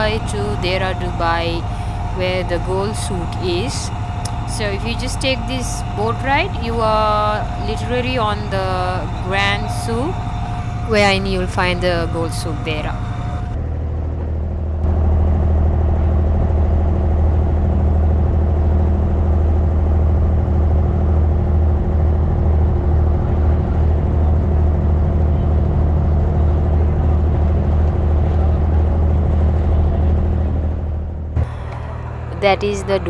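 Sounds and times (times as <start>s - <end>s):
boat diesel engine droning: 0.0s - 33.0s.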